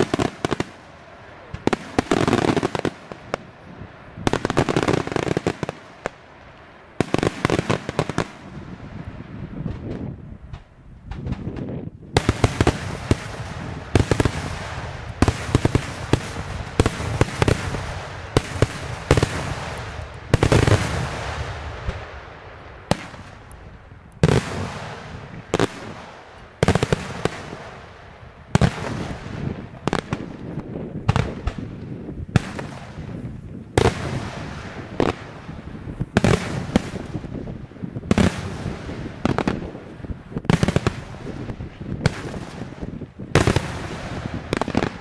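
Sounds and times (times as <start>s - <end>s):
fireworks bangs with rolling echo: 0.0s - 45.0s.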